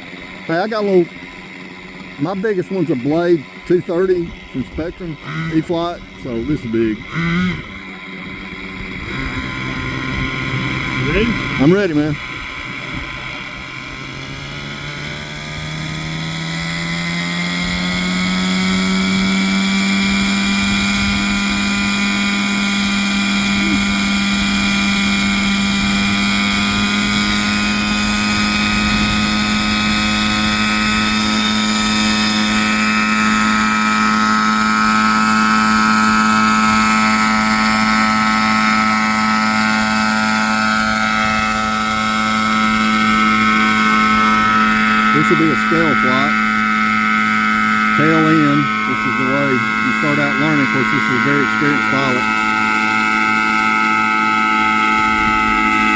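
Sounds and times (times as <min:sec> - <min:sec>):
model helicopter engine: 0:00.0 - 0:55.9.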